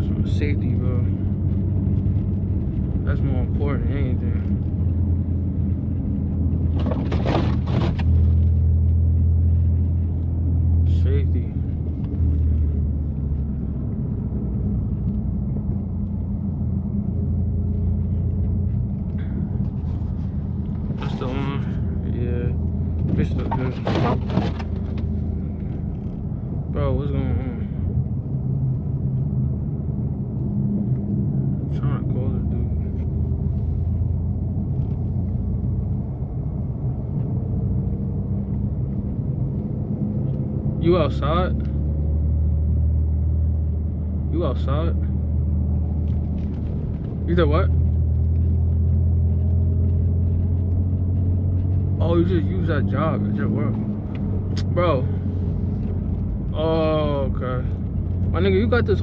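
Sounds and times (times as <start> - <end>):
car engine droning: 0.0 - 59.0
tyre and road noise: 0.0 - 59.0.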